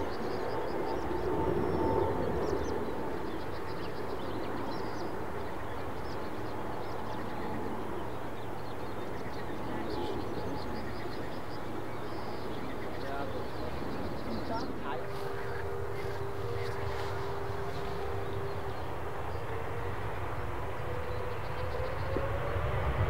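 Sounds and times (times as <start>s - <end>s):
small birds chirping: 0.0s - 22.7s
jet engine rumble and hiss: 0.0s - 23.0s
thin engine whine: 0.0s - 23.0s.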